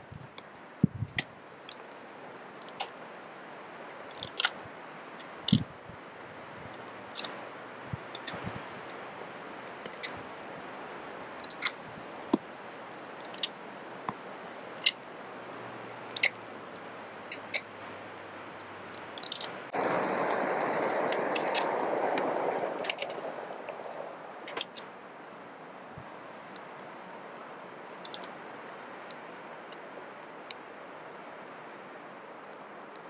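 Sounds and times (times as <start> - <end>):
background hiss: 0.0 - 33.0.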